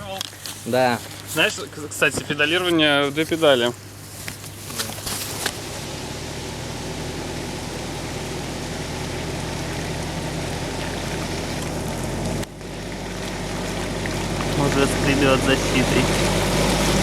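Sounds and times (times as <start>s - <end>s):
suv engine running under load: 0.0s - 17.0s
tyres in mud: 0.0s - 17.0s.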